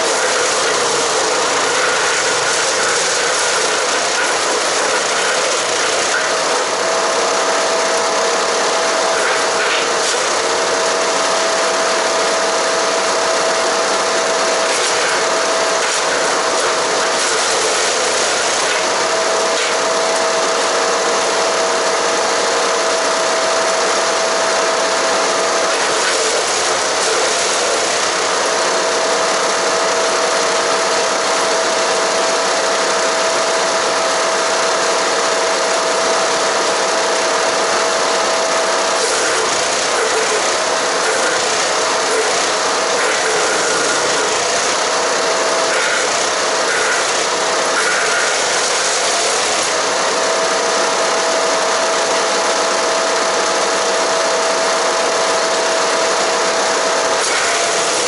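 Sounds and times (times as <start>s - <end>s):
chipper whine: 0.0s - 58.0s
wood chipper running: 0.0s - 58.0s.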